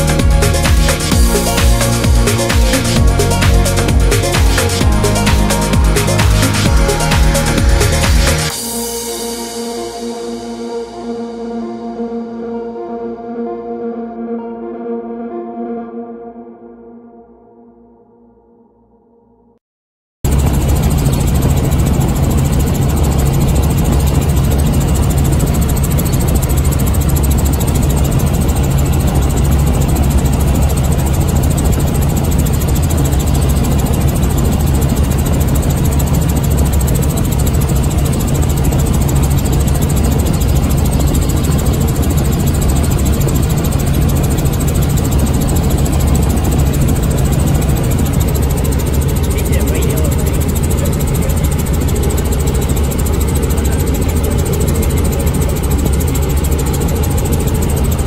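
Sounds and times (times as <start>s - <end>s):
helicopter engine and rotor drone: 0.0s - 13.5s, 20.3s - 58.0s.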